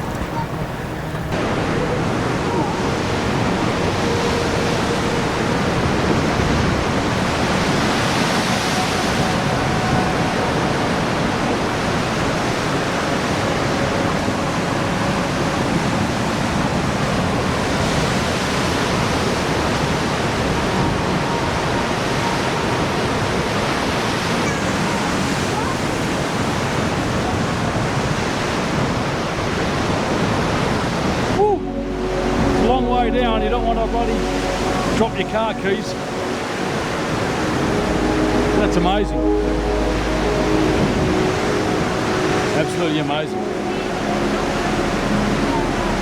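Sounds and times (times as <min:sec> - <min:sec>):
ocean surf on rocks: 0:00.0 - 0:46.0
wind: 0:00.0 - 0:46.0.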